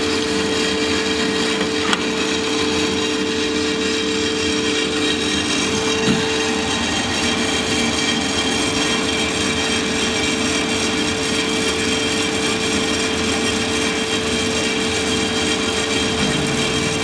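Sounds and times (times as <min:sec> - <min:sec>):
coffee roaster drum whirring: 0:00.0 - 0:17.0
steady hum: 0:00.8 - 0:17.0.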